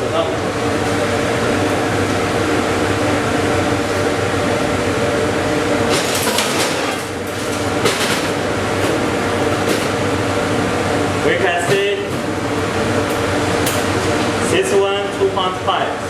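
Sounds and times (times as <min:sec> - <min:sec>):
machine fan humming: 0:00.0 - 0:16.0.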